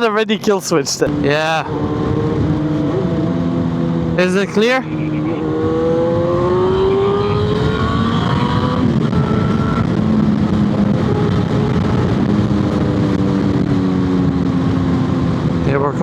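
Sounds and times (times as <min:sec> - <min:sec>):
wind rushing on microphone: 0:00.0 - 0:16.0
motorcycle engine accelerating: 0:01.1 - 0:16.0.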